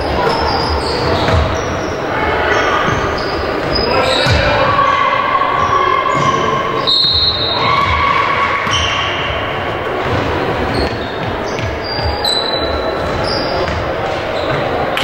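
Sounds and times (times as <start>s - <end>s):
sneakers squeaking on court: 0.0s - 4.9s, 5.6s - 15.0s.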